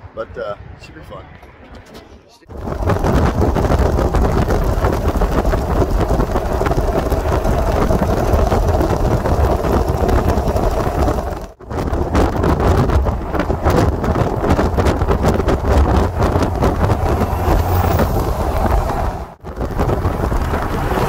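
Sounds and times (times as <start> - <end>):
road and engine rumble: 0.0 - 21.0
wind buffeting microphone: 0.0 - 21.0.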